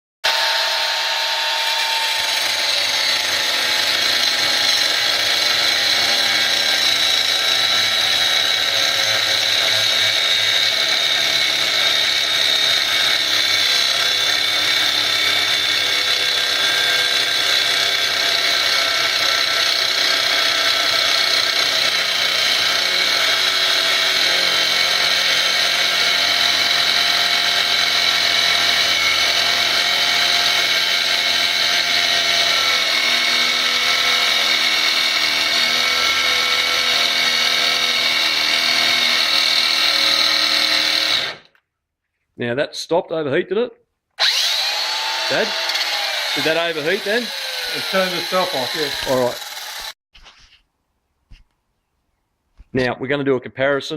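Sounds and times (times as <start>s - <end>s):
angle grinder cutting: 0.2s - 41.6s, 44.2s - 50.0s.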